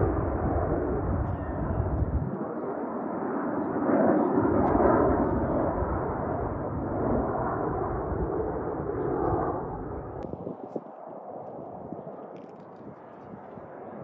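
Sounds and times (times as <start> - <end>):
distant jet roar: 0.0 - 14.0.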